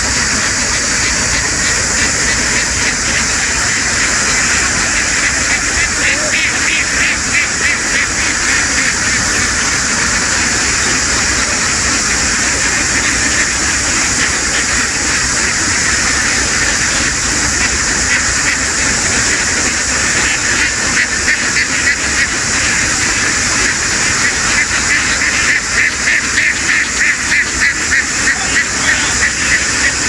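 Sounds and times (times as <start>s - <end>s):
flock of ducks quacking: 0.0s - 30.0s.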